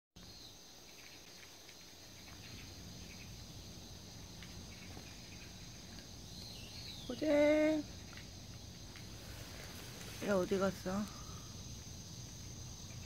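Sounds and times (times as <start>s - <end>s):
crickets chirring: 0.2s - 13.0s.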